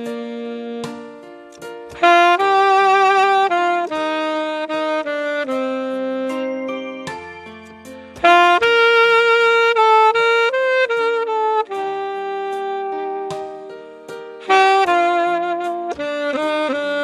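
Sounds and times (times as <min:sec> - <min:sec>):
recorded backing track: 0:00.0 - 0:17.0
saxophone slow melody: 0:00.0 - 0:17.0.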